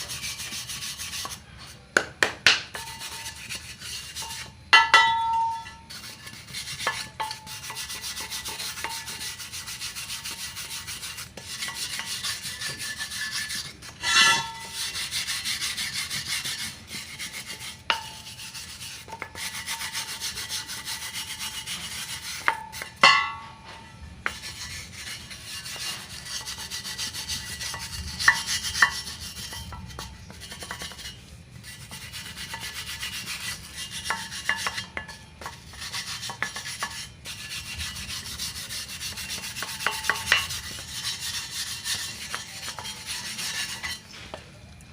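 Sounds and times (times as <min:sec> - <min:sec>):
scrubbing on metal wheel rim: 0:00.0 - 0:01.9, 0:02.7 - 0:44.4.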